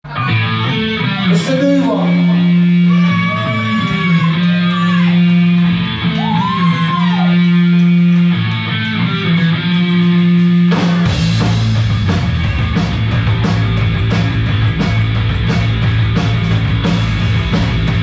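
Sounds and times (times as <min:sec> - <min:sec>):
bass notes: 0:00.0 - 0:18.0
drums: 0:00.0 - 0:18.0
electric guitar bending notes: 0:00.1 - 0:18.0.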